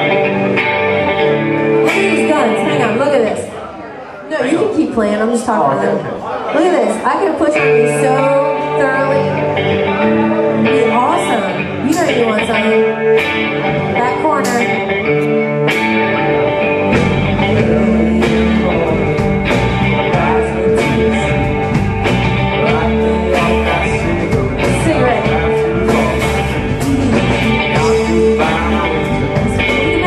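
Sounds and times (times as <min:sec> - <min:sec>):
live rock band playing: 0:00.0 - 0:03.6, 0:06.5 - 0:30.0
electric guitar: 0:00.0 - 0:03.8, 0:05.8 - 0:30.0.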